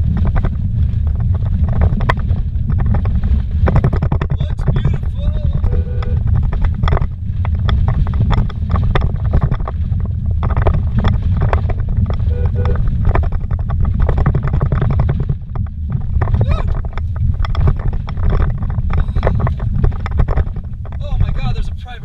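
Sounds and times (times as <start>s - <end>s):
car knocks and rattles: 0.0s - 22.0s
tyre and engine rumble: 0.0s - 22.0s.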